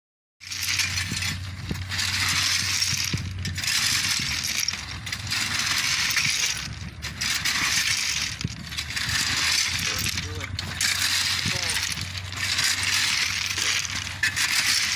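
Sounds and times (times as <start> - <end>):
gravel scraping with tools: 0.4 - 14.9
steel clinking on stone: 0.4 - 14.9.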